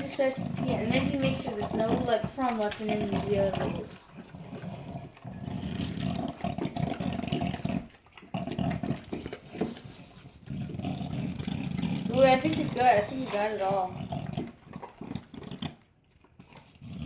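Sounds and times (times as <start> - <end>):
dog growling low: 0.0 - 15.8, 16.4 - 17.0.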